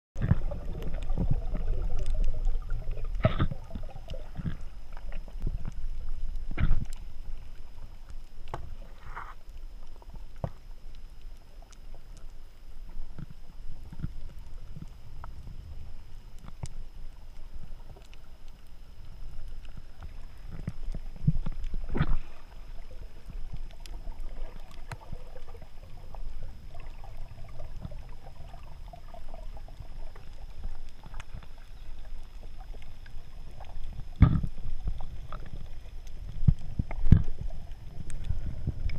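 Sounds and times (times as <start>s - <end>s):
underwater knocks and clicks: 0.2s - 11.0s, 12.9s - 15.5s, 19.3s - 22.4s, 23.2s - 38.9s
underwater rumble of moving water: 0.2s - 38.9s.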